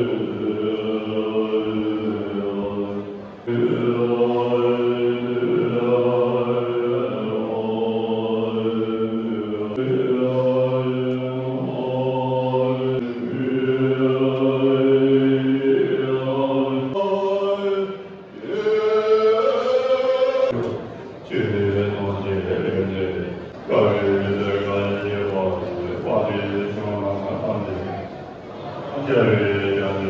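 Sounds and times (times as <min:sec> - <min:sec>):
monks chanting in low voices: 0:00.0 - 0:30.0.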